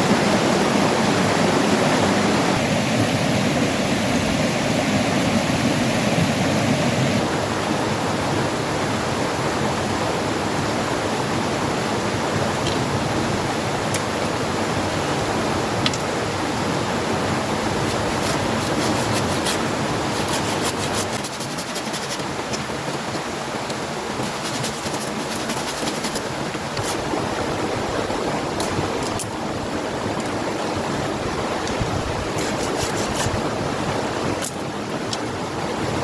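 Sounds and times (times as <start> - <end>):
strong wind blowing: 0.0 - 36.0.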